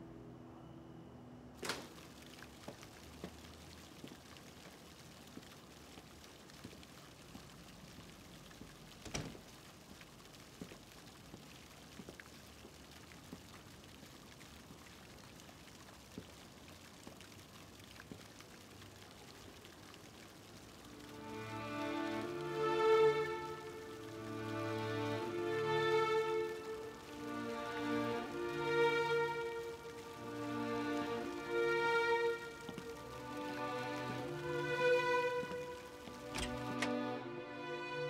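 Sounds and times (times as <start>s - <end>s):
patter of falling water: 1.6s - 38.0s
water drips: 1.6s - 38.0s.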